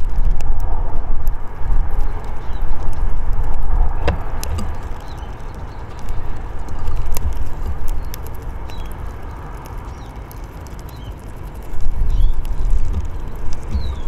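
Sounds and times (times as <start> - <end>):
low outdoor rumble: 0.0 - 14.0
birds pecking on wooden feeder: 1.6 - 14.0.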